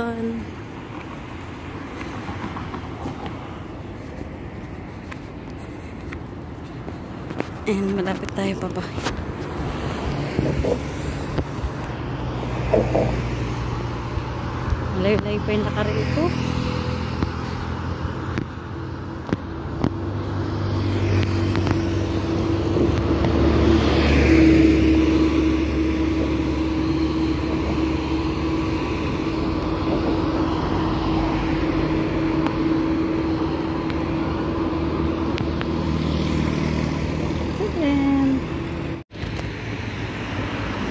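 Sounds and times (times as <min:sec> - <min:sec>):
low traffic hum: 0:00.0 - 0:40.9
rush of passing cars: 0:00.0 - 0:40.9.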